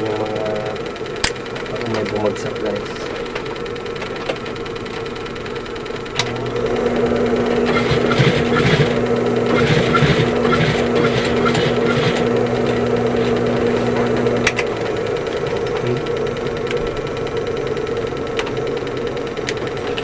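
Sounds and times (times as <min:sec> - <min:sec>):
sewing machine motor humming: 0:00.0 - 0:20.0
sewing machine stitches: 0:00.0 - 0:20.0.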